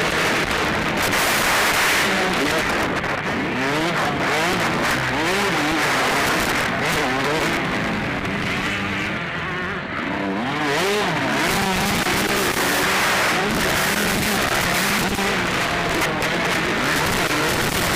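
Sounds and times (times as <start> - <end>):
motocross bike engines revving: 0.0 - 17.9.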